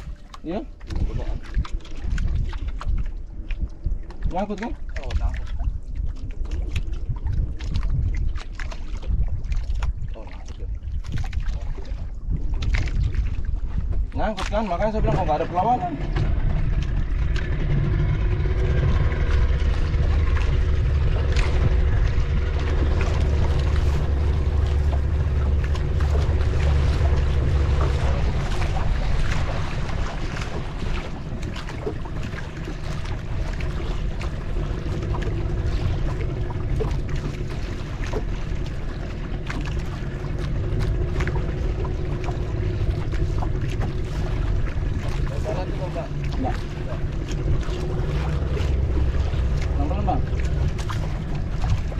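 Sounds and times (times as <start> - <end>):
boat engine rumbling: 0.0 - 51.9
knocks and splashes: 0.0 - 51.9
wind on microphone: 0.0 - 51.9.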